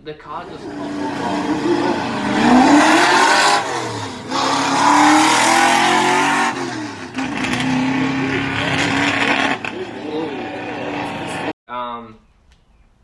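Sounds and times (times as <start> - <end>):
car engine at full throttle: 0.4 - 11.5.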